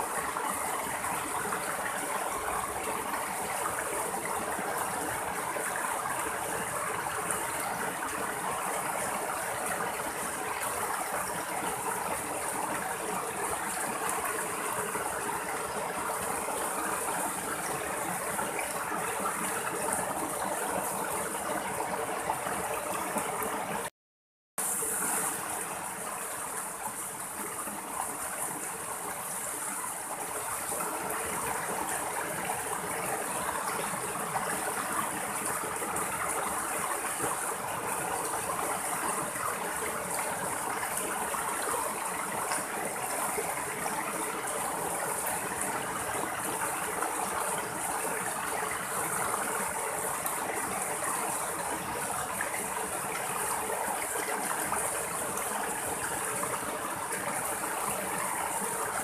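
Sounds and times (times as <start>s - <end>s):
stream rushing over rocks: 0.0s - 23.9s, 24.6s - 59.0s.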